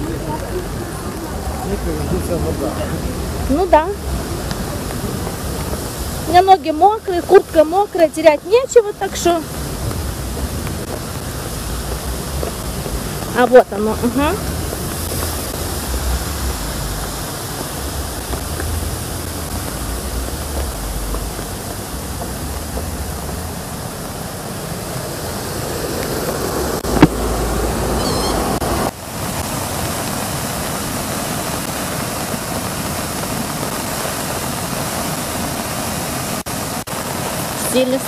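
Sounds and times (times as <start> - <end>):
falling rain: 0.0 - 38.0
waterfall rushing: 0.0 - 38.0.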